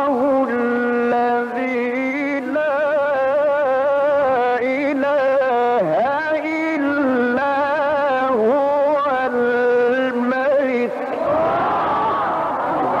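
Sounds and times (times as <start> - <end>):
man chanting melodically: 0.0 - 11.2.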